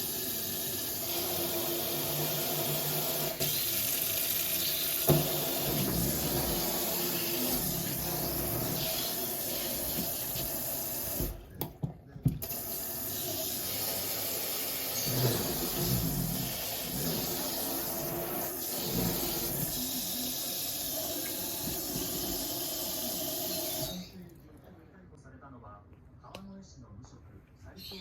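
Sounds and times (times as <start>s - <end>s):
water running into sink: 0.0s - 11.6s, 12.4s - 24.3s.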